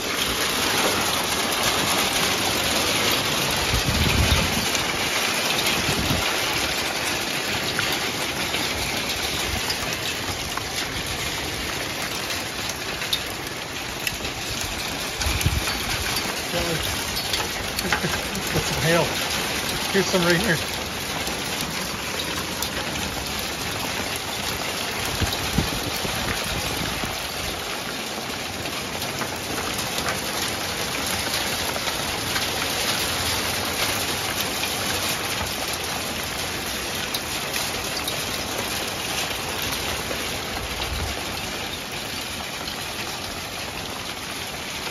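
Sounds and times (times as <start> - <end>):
hail pelting on deck and furniture: 0.0 - 44.9.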